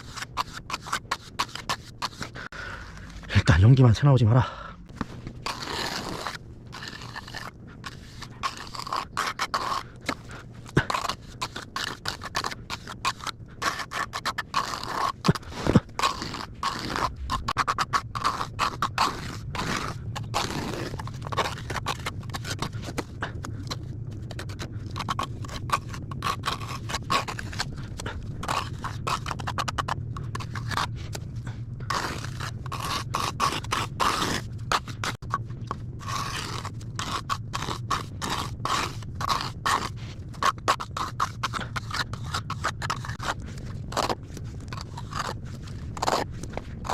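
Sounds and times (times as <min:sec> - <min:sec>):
trowel scraping cement mortar: 0:00.0 - 0:03.6, 0:05.0 - 0:46.9.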